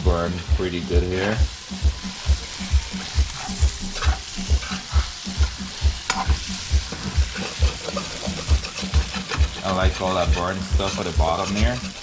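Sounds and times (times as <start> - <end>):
sweet potato sizzling in pan: 0.0 - 12.0
metal spoon scraping pan: 2.1 - 12.0.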